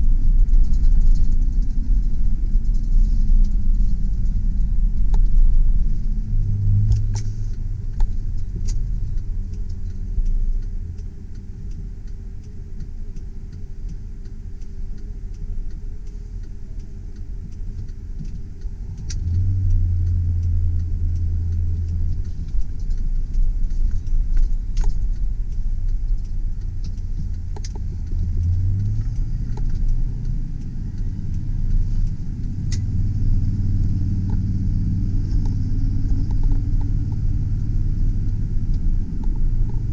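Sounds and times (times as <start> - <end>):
light clicks and rattles: 0.0 - 39.9
truck engine drone: 0.0 - 39.9.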